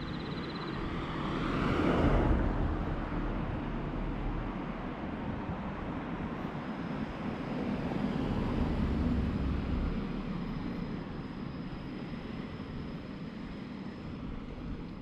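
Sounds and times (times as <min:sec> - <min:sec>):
car engine and tyre rumble: 0:00.0 - 0:15.0
outdoor street noise: 0:00.0 - 0:15.0.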